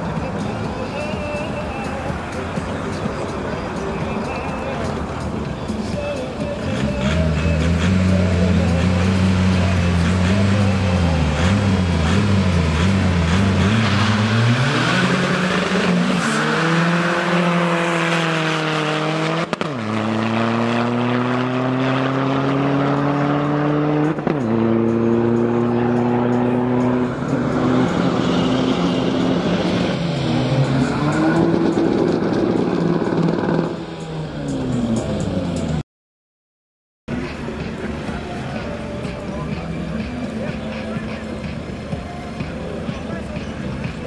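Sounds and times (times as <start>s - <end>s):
race car engines revving: 0.0s - 35.8s, 37.1s - 44.0s.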